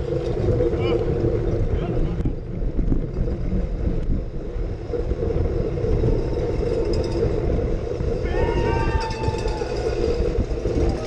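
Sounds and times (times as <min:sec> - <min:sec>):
road rumble: 0:00.0 - 0:11.0
wind rush: 0:00.0 - 0:11.0.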